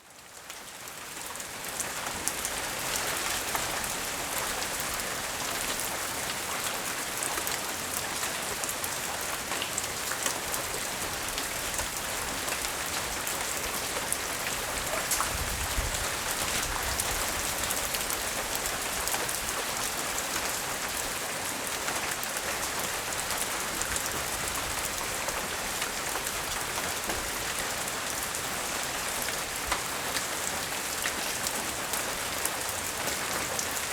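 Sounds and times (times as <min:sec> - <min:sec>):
rain pattering on surfaces: 0:00.0 - 0:33.9.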